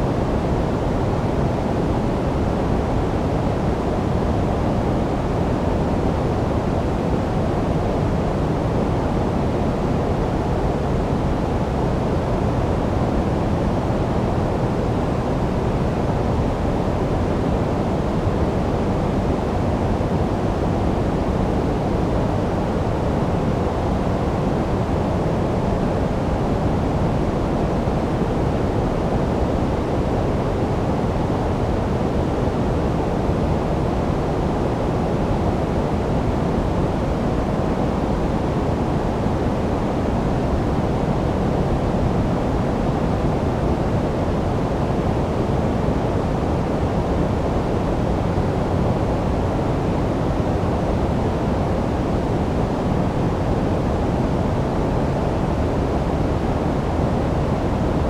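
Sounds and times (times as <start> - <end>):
deep low white noise: 0.0 - 58.0.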